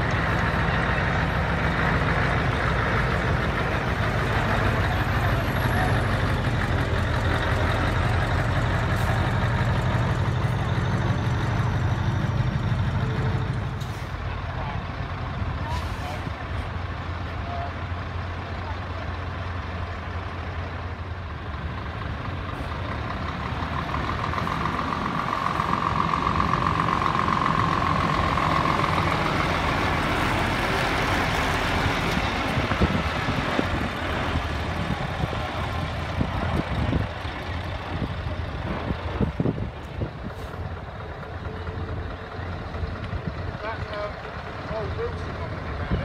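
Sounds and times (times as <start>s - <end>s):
truck diesel engine running: 0.0s - 46.0s.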